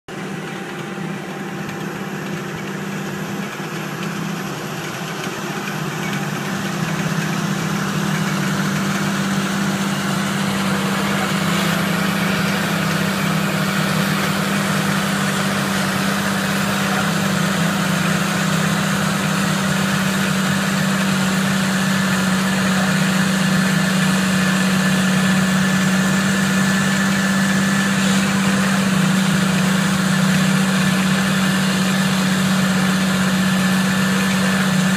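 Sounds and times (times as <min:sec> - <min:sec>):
tractor engine running under load: 0:00.1 - 0:34.9.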